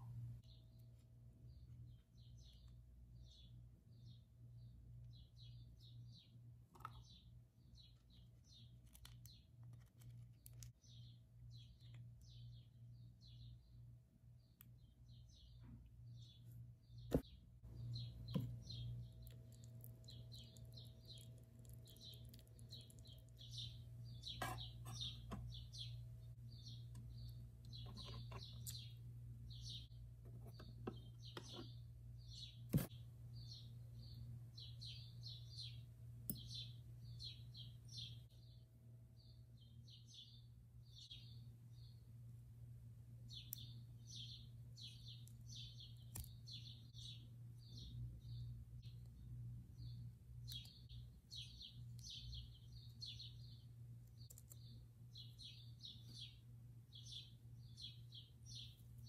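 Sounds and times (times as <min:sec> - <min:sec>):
small bird chirping: 0:00.0 - 0:42.2, 0:43.2 - 0:59.0
faint low hum: 0:00.0 - 0:59.0.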